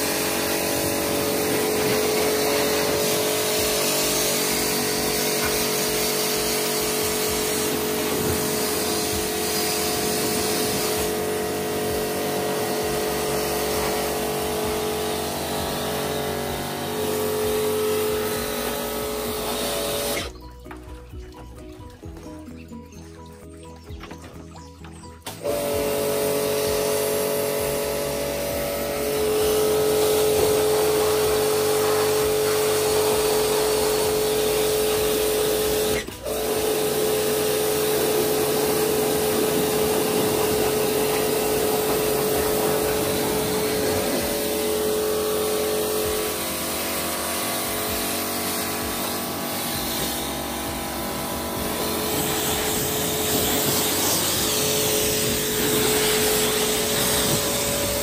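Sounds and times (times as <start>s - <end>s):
water spray hiss: 0.0s - 20.4s, 25.3s - 58.0s
pressure washer motor hum: 0.0s - 58.0s.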